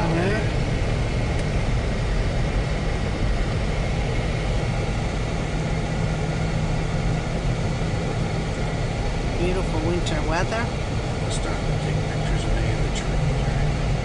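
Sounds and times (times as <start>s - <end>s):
car interior engine and road noise: 0.0s - 14.0s.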